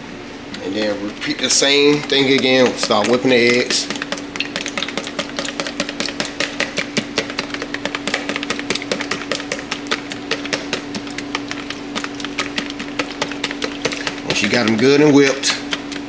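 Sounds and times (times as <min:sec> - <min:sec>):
steady low hum: 0:00.0 - 0:16.0
whisk clicking against bowl: 0:00.5 - 0:16.0.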